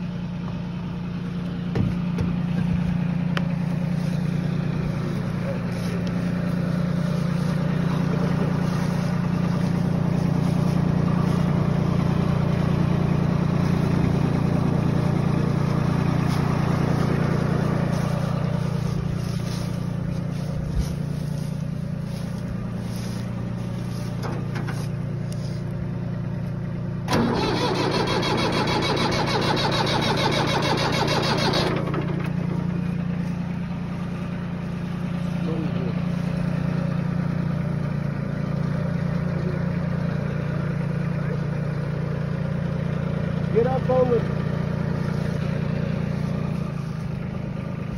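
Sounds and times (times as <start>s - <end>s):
engine idling: 0.0s - 47.9s.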